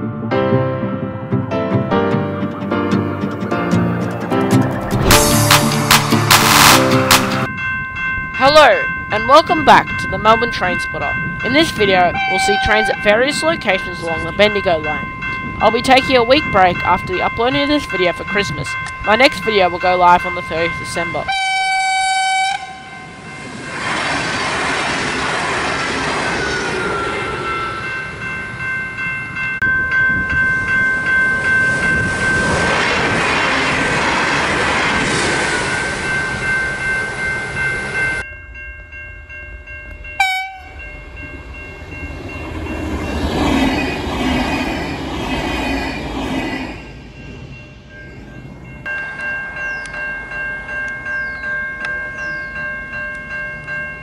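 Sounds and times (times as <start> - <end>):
diesel train passing: 0.0 - 54.0
crossing bells ringing: 3.1 - 24.3, 25.8 - 54.0.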